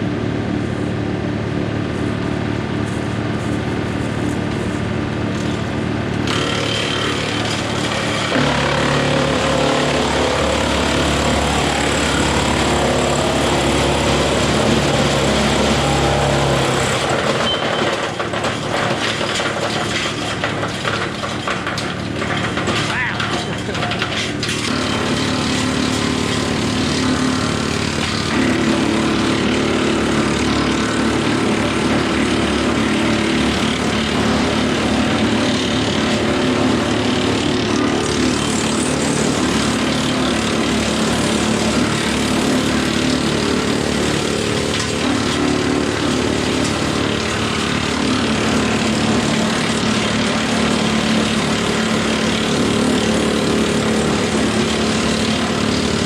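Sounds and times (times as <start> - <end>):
tractor engine drone: 0.0 - 56.0
wood chipper whirring: 0.0 - 56.0.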